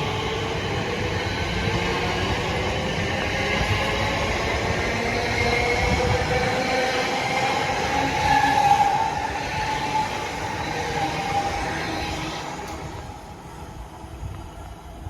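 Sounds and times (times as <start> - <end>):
electric train whine: 0.0 - 15.0
wheels rumbling on rail: 0.0 - 15.0.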